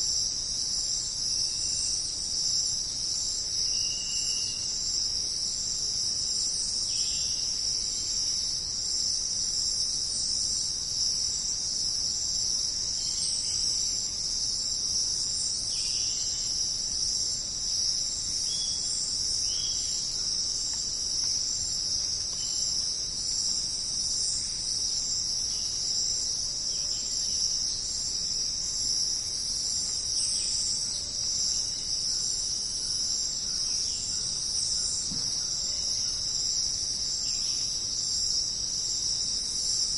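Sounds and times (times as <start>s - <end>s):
faint insect chirps: 0.0s - 39.9s
insects trilling: 0.0s - 39.9s.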